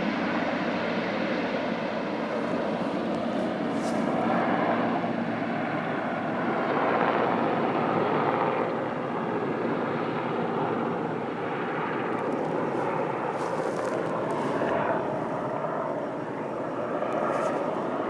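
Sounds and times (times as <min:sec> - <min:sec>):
helicopter engine and rotor: 0:00.0 - 0:18.0.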